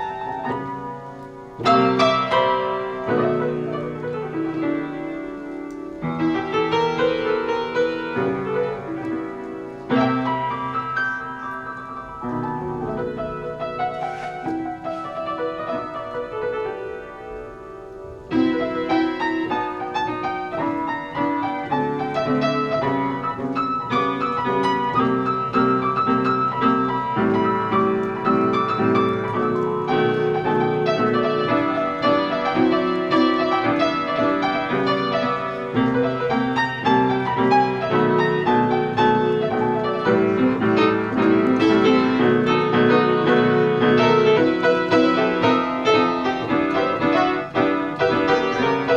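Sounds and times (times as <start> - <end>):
solo piano playing: 0.0 - 48.9.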